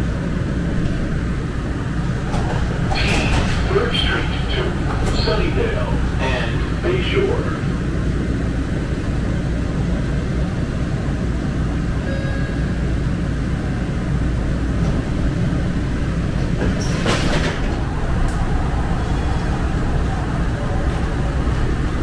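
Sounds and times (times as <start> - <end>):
light-rail train low rumble: 0.0 - 22.0.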